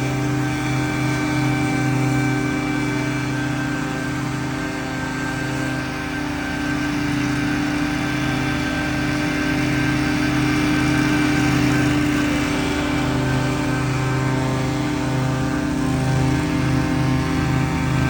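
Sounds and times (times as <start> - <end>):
leaf blowers running: 0.0 - 18.0.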